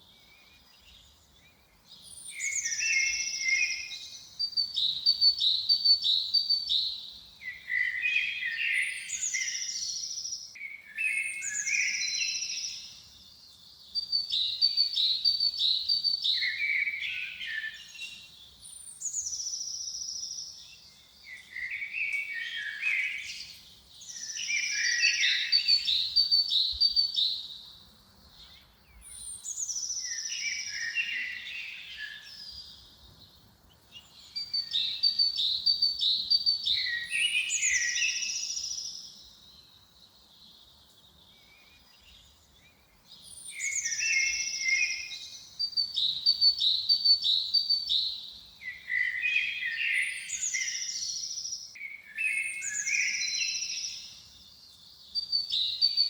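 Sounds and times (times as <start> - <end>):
songbird singing trills: 0.0 - 56.0.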